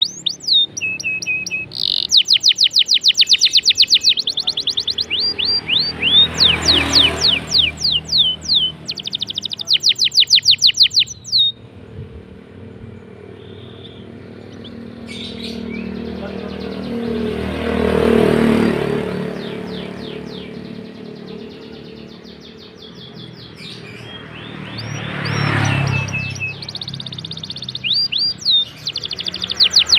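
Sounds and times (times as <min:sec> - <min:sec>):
canary singing: 0:00.0 - 0:11.8, 0:12.6 - 0:29.9
vehicle engine hum: 0:00.0 - 0:29.9.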